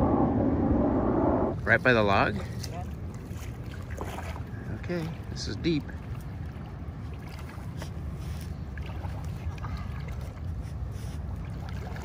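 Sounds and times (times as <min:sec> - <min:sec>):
wind buffeting microphone: 0:00.0 - 0:12.0
faint splashes of wading: 0:01.5 - 0:12.0.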